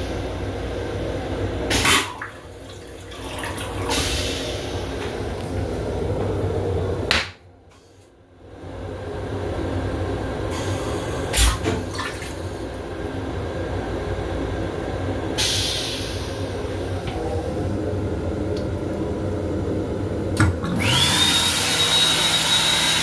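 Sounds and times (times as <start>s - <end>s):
toilet flushing: 0.0s - 7.2s, 8.5s - 23.0s
train low running rumble: 0.0s - 21.1s.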